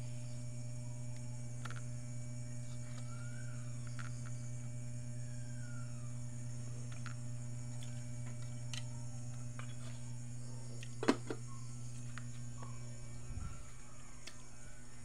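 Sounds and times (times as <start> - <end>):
faint high whine: 0.0 - 15.0
steady low hum: 0.0 - 15.0.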